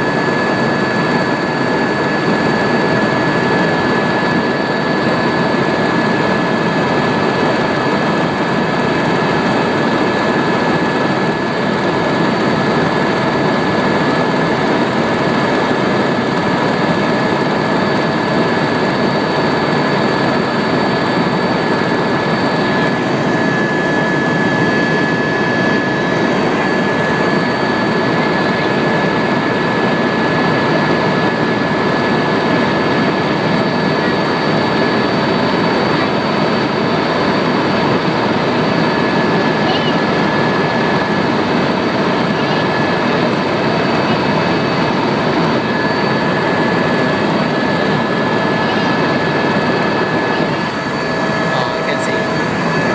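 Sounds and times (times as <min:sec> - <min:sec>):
constant high whine: 0:00.0 - 0:52.9
helicopter engine and rotor noise: 0:00.0 - 0:52.9.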